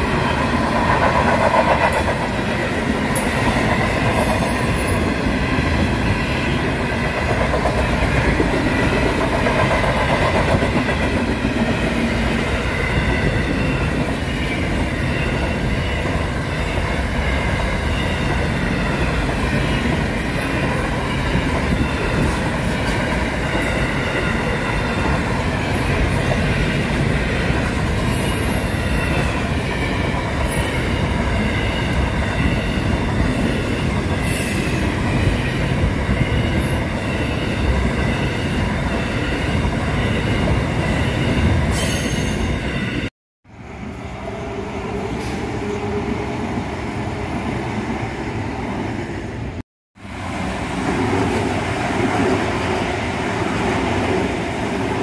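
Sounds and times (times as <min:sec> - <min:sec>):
loud roar of wheels on rail: 0:00.0 - 0:55.0.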